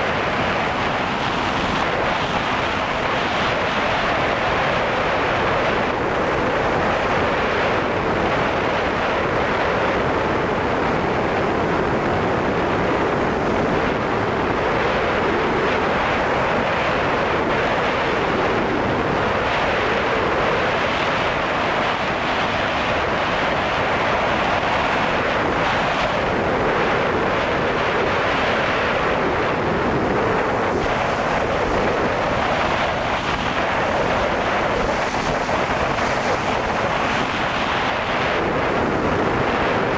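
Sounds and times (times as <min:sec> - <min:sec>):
drone propeller and airflow rushing: 0:00.0 - 0:39.9.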